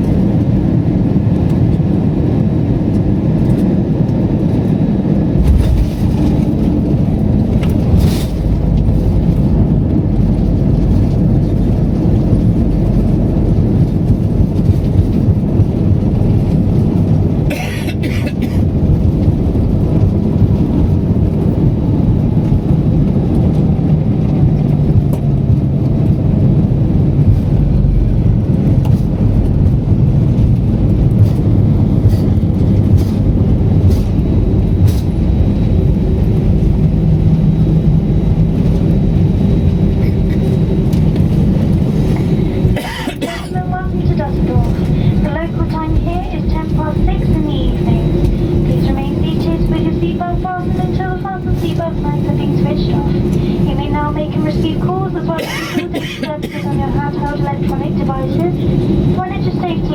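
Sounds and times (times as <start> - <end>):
vehicle interior low rumble: 0.0 - 59.9.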